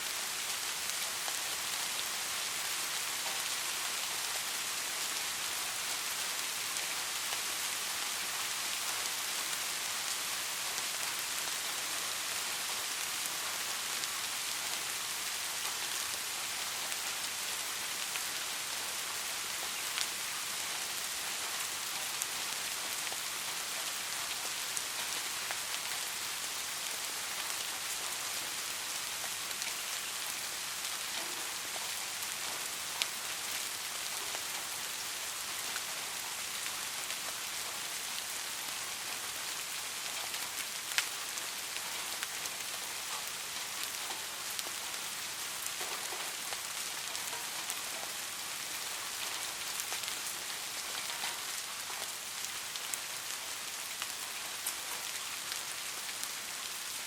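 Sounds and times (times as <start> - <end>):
rain falling on street: 0.0 - 57.0.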